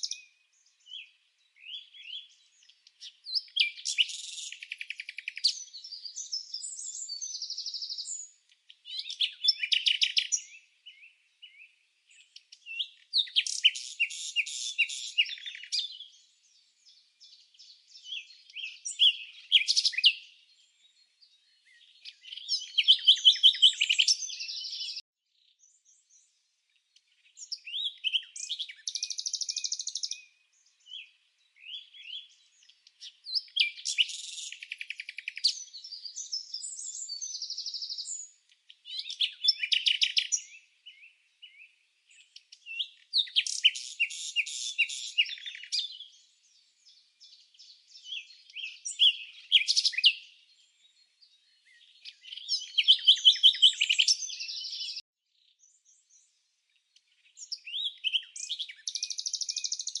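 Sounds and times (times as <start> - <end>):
songbird chirps and trills: 0.0 - 60.0.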